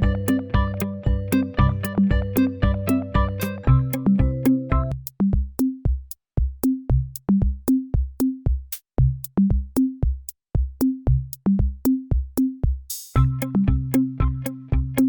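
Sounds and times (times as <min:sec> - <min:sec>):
electronic drum machine beat: 0:00.0 - 0:15.0.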